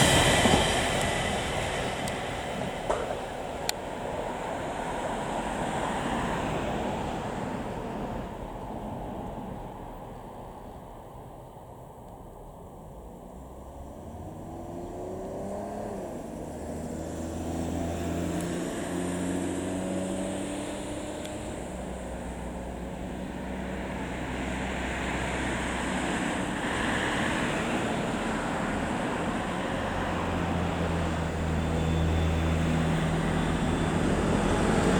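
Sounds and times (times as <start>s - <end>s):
train approaching: 0.0s - 34.9s.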